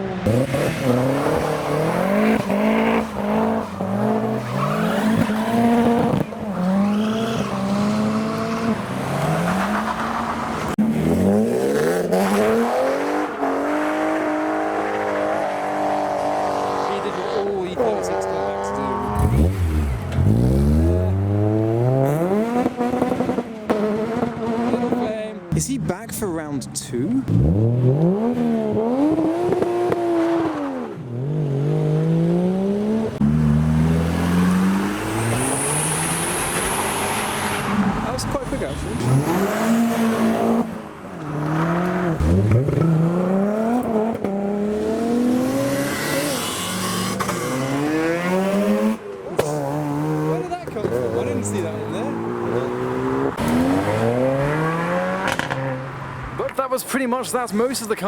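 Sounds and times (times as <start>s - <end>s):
car engine accelerating: 0.0s - 25.7s, 27.0s - 56.5s.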